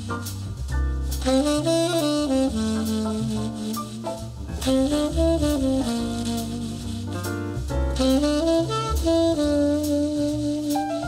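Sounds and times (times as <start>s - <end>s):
bass: 0.0s - 11.0s
drums with cymbal strokes: 0.0s - 11.0s
saxophone melody: 1.2s - 11.0s.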